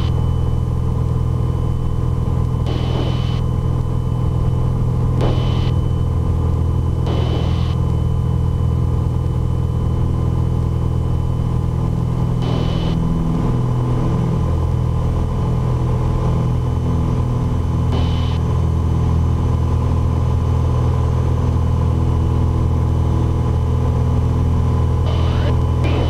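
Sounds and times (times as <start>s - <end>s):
propeller plane engine drone: 0.0s - 26.0s.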